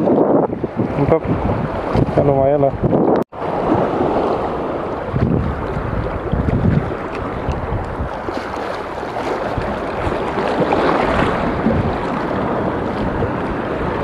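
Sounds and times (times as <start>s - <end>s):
sea water lapping over reef: 0.0s - 14.0s
wind buffeting microphone: 0.0s - 14.0s.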